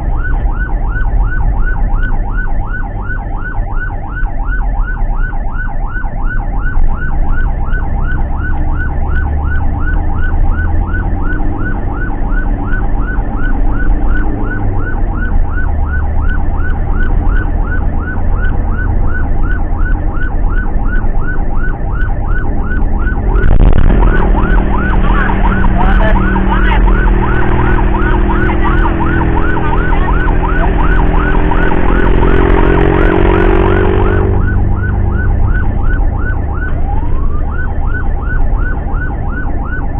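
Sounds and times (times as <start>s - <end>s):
ambulance siren yelping: 0.0s - 39.9s
van engine and road rumble: 0.0s - 39.9s.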